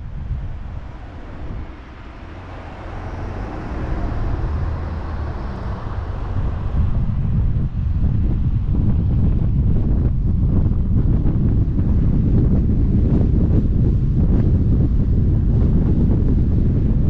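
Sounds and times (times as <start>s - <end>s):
road and tyre noise: 0.0s - 17.0s
wind buffeting microphone: 0.0s - 17.0s.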